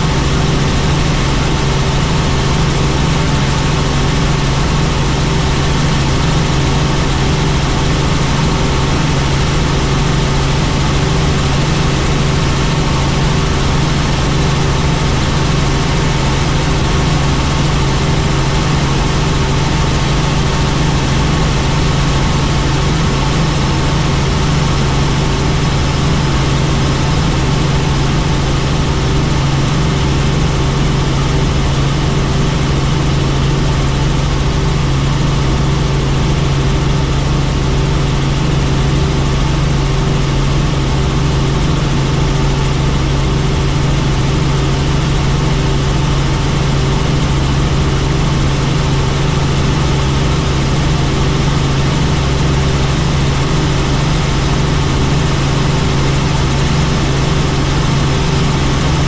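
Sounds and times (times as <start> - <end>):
helicopter engine and rotor noise: 0.0 - 59.0.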